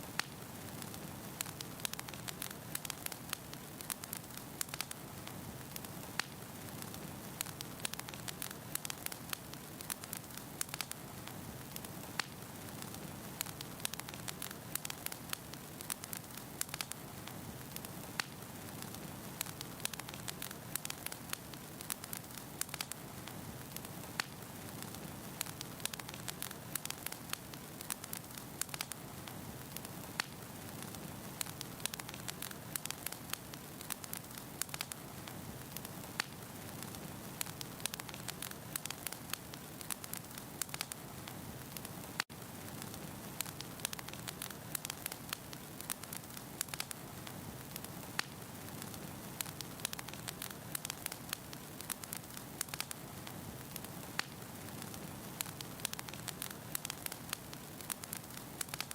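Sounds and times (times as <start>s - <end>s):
firewood crackling in fireplace: 0.0s - 58.9s.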